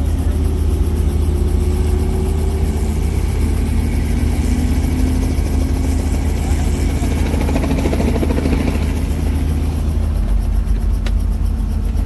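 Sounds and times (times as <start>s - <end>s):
faint steady whine: 0.0s - 12.0s
helicopter engine and rotor drone: 0.0s - 12.0s.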